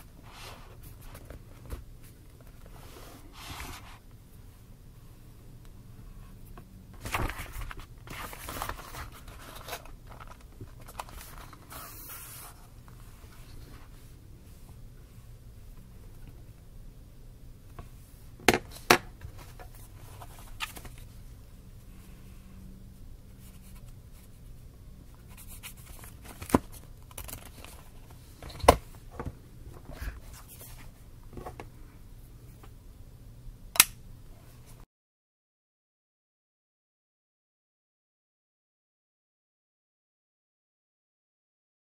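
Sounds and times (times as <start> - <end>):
faint low hum: 0.0 - 34.8.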